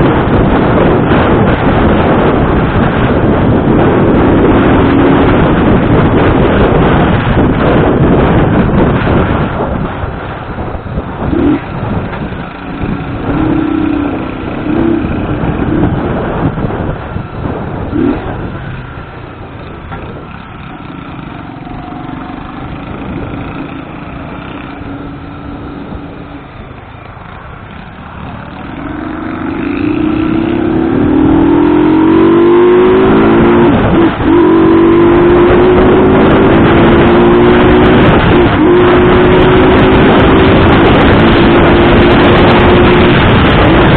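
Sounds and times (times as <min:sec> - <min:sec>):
motorcycle engine accelerating: 0:00.0 - 0:43.9
wind rushing over microphone: 0:00.0 - 0:43.9.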